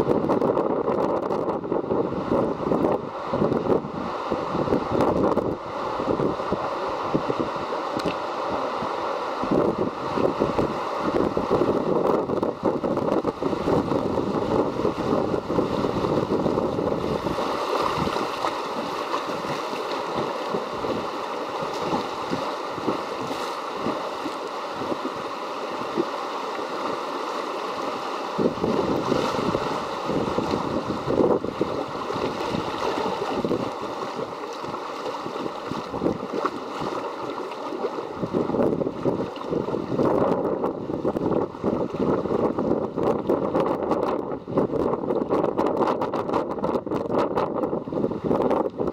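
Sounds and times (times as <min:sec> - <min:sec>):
wind buffeting microphone: 0:00.0 - 0:26.2, 0:27.8 - 0:48.9
river water rushing and splashing: 0:00.0 - 0:45.3.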